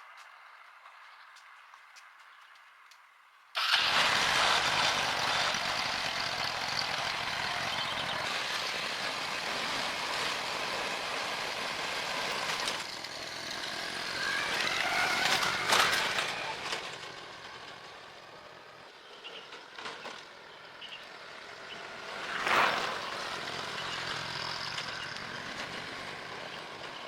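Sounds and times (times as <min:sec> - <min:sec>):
motor tricycle engine running: 0:03.6 - 0:27.0.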